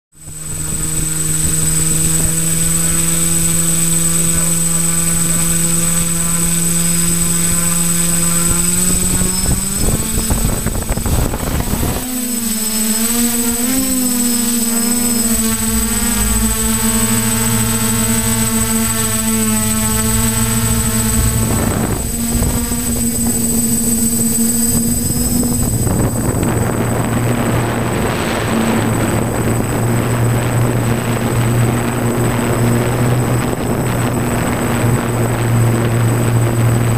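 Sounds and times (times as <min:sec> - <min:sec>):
rushing noise: 0:00.2 - 0:31.0
drone propellers whirring: 0:00.2 - 0:36.9.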